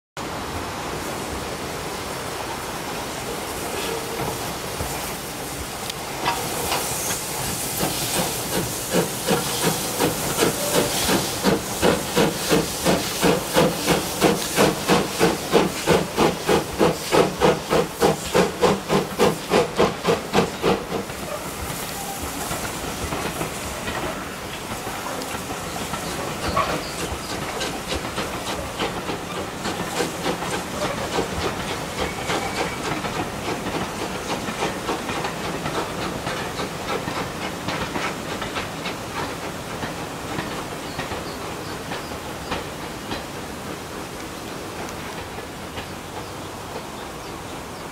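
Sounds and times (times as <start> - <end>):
steam hissing: 0.8 - 47.9
steam locomotive chuffing: 3.2 - 47.9.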